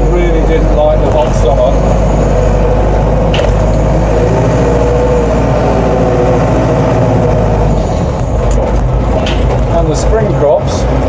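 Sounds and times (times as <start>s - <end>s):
loader engine running: 0.0s - 11.0s.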